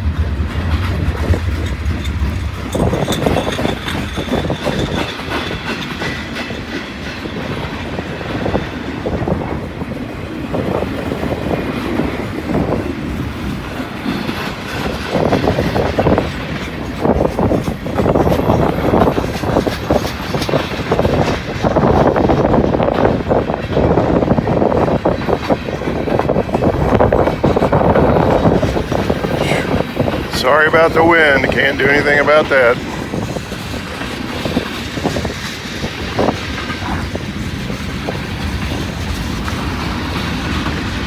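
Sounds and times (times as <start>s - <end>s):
train wheels clattering over rail joints: 0.0s - 41.0s
wind buffeting microphone: 0.0s - 41.0s.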